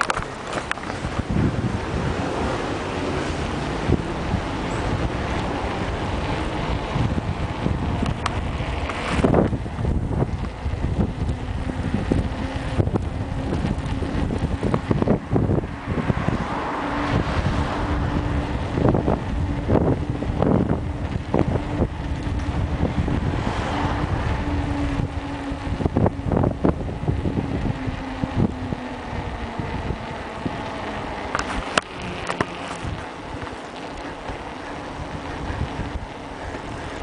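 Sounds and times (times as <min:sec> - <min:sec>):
bike rattles and knocks: 0:00.0 - 0:37.0
steady hum: 0:00.0 - 0:37.0
steady rumble: 0:00.0 - 0:37.0
wind buffeting microphone: 0:00.0 - 0:37.0.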